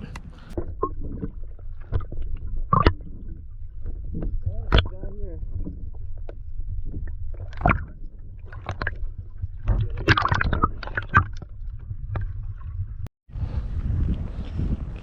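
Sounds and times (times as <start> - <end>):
water sloshing against kayak hull: 0.0 - 13.1
water splashes: 0.0 - 13.1.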